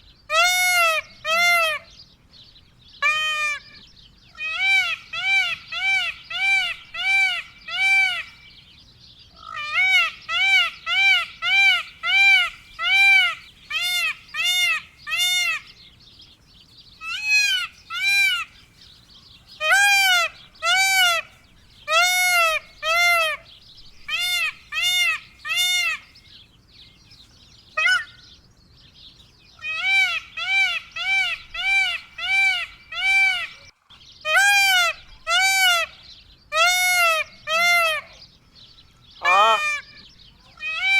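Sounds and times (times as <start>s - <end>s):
peafowl calling: 0.3s - 1.9s, 2.9s - 8.6s, 9.3s - 26.4s, 27.8s - 28.3s, 29.5s - 38.2s, 39.2s - 40.9s.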